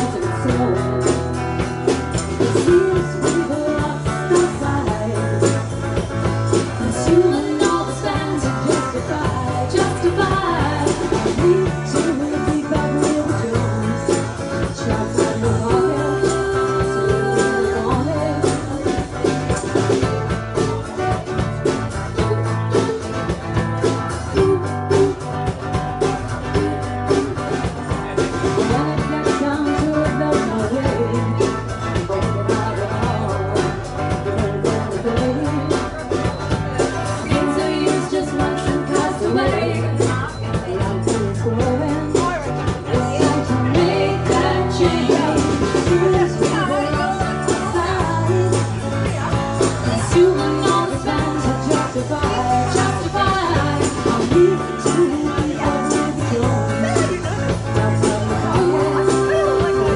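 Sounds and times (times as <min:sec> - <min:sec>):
acoustic guitar: 0:00.0 - 0:59.9
person singing: 0:00.0 - 0:59.9.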